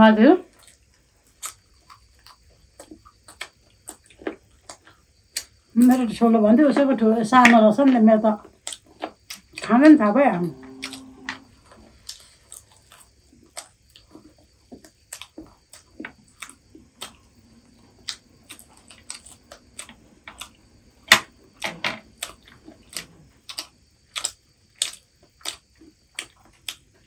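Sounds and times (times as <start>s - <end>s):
chewing and crunching crispy food: 0.4s - 6.2s, 8.3s - 9.8s, 10.6s - 27.0s.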